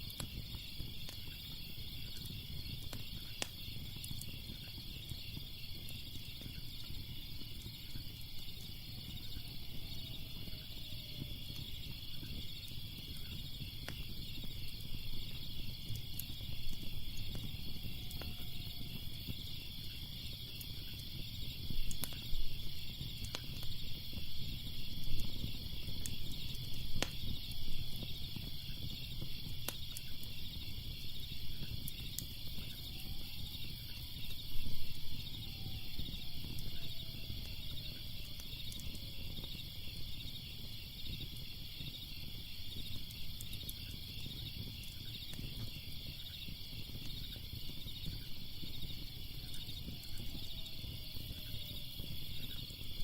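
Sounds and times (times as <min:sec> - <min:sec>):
crickets chirping: 0:00.0 - 0:53.0
fire crackling and popping: 0:00.0 - 0:53.0.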